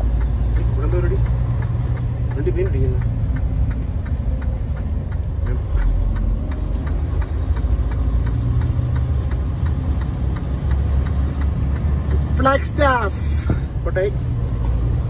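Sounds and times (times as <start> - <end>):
even ticking: 0.0 - 14.4
truck engine rumbling: 0.0 - 15.0.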